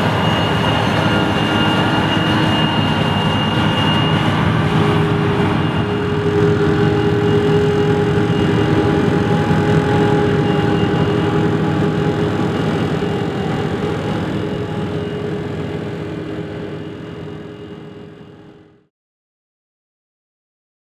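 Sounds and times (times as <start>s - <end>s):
forage harvester running under load: 0.0s - 18.3s.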